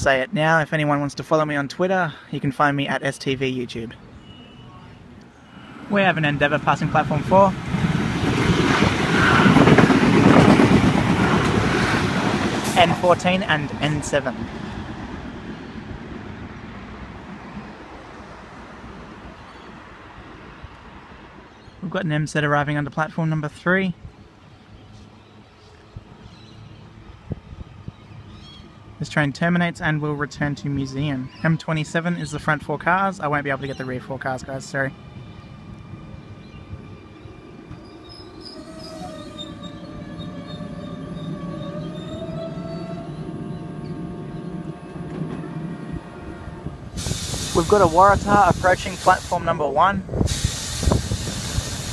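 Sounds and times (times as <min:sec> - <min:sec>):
diesel train passing: 0:00.0 - 0:51.9.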